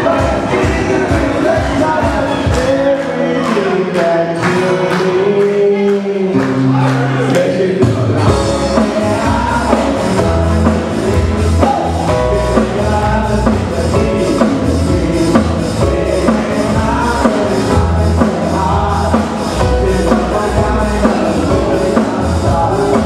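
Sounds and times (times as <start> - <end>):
live band playing hawaiian music: 0.0 - 23.0.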